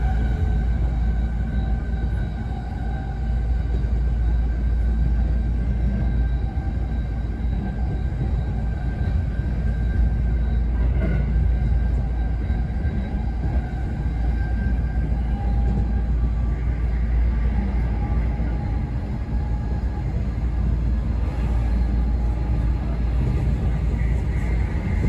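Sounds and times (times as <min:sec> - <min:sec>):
faint whining tones: 0:00.0 - 0:25.0
train wheels rumbling on rail: 0:00.0 - 0:25.0.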